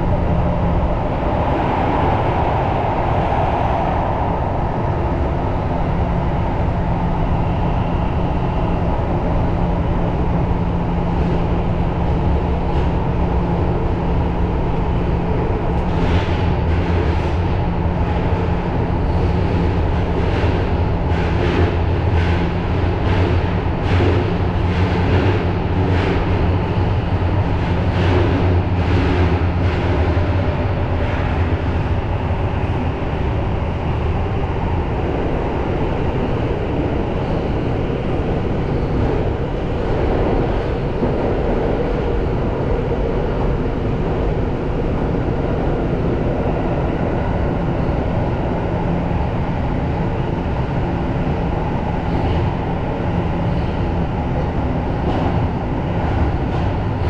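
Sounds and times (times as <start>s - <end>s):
subway train rumbling in tunnel: 0.0s - 57.0s.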